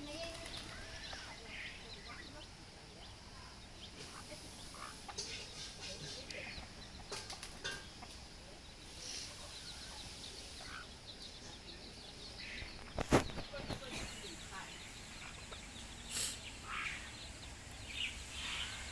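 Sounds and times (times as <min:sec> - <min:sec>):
baby chicks peeping: 0:00.0 - 0:18.9.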